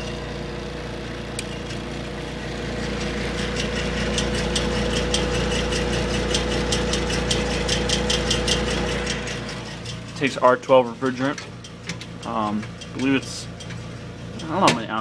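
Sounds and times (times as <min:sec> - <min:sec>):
electric fan humming: 0:00.0 - 0:15.0
fan rattling in quick ticks: 0:02.8 - 0:15.0.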